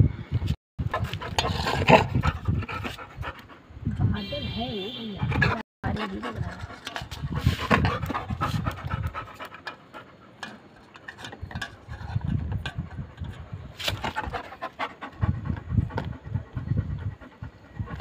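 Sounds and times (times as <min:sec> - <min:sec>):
dog panting: 0:00.9 - 0:03.8, 0:05.2 - 0:18.0.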